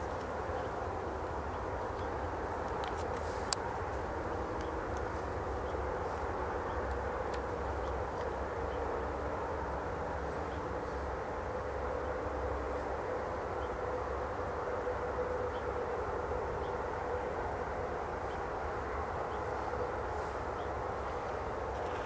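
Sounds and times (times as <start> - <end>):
steady background rumble: 0.0 - 22.0.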